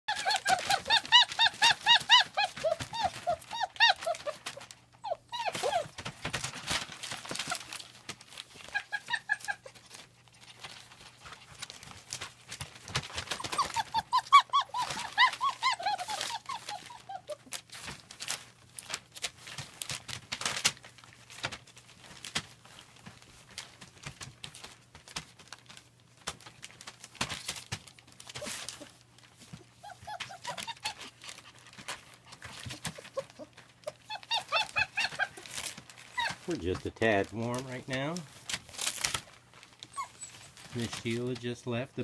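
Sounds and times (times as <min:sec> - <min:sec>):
puppies whining and yelping: 0:00.1 - 0:22.9, 0:27.0 - 0:36.6, 0:38.7 - 0:41.0.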